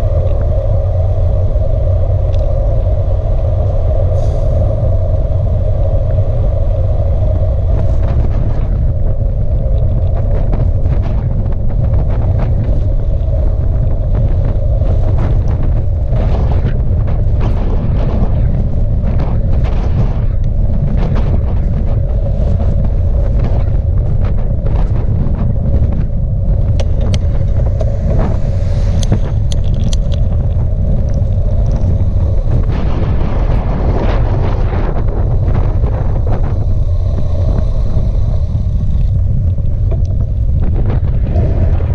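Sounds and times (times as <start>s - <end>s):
constant hum: 0.0s - 41.9s
wind buffeting microphone: 0.0s - 41.9s.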